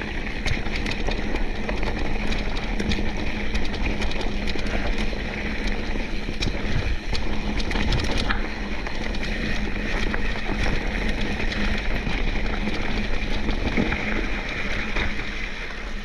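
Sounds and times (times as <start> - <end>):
bike clicks and ticks: 0.0 - 16.0
bike tyres rumbling on dirt trail: 0.0 - 16.0.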